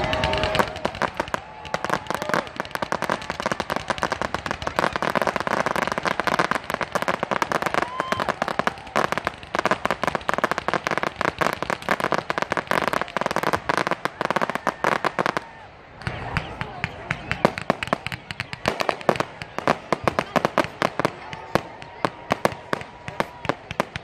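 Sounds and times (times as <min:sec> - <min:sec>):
fireworks popping and banging: 0:00.0 - 0:24.0.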